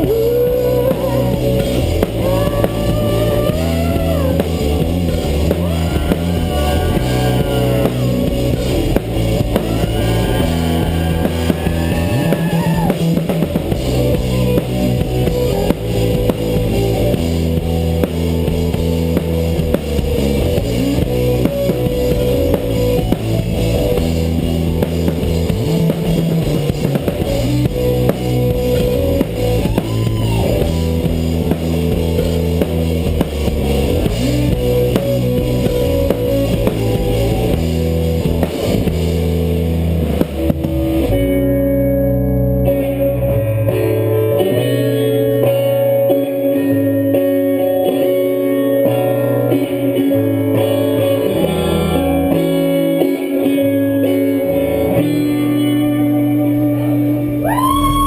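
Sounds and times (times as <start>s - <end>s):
drum kit: 0.0s - 41.8s, 42.8s - 58.0s
bass guitar: 0.0s - 58.0s
electric guitar: 0.0s - 58.0s.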